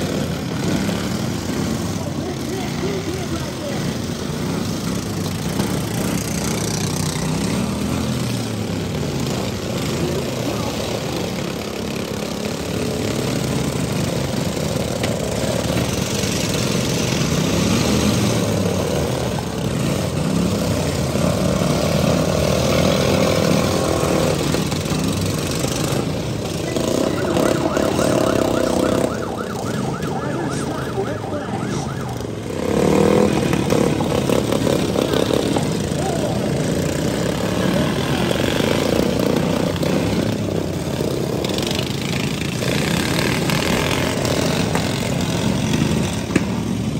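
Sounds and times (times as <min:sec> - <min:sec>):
lawn mower engines revving: 0:00.0 - 0:46.9.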